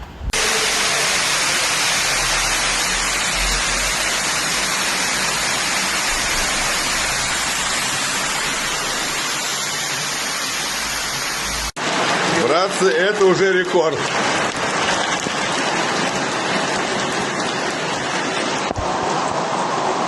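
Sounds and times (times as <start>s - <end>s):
rushing water: 0.2s - 20.0s.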